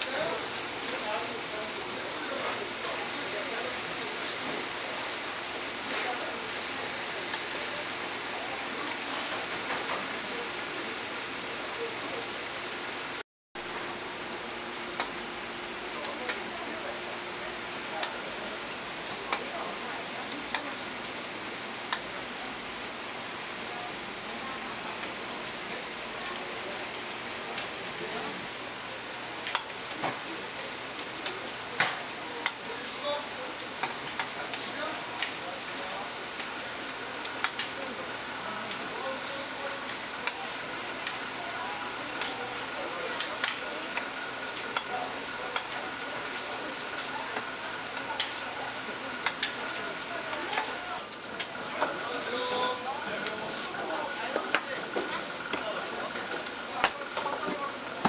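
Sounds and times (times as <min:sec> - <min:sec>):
meat patties sizzling on griddle: 0:00.0 - 0:58.0.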